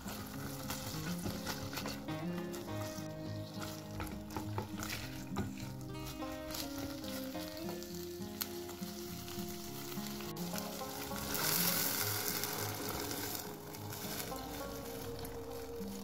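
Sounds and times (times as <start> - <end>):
background music: 0.0 - 16.0
food sizzling in oil: 0.0 - 16.0.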